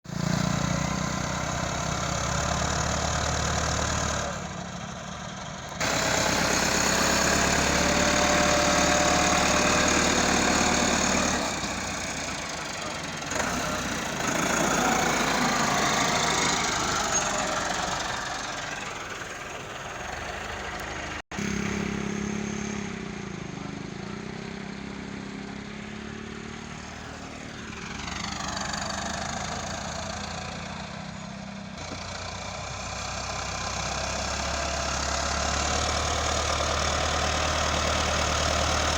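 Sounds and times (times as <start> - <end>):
construction machinery engines: 0.0 - 38.9
engine sound: 0.0 - 38.9.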